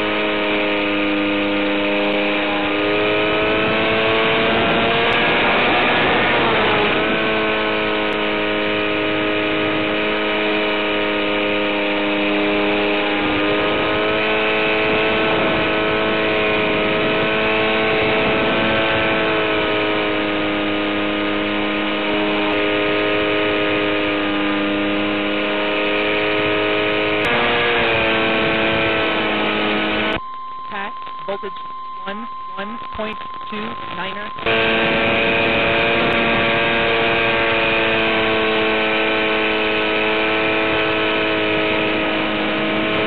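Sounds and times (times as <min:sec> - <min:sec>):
electric motor whining: 0:00.0 - 0:30.2, 0:32.8 - 0:43.0.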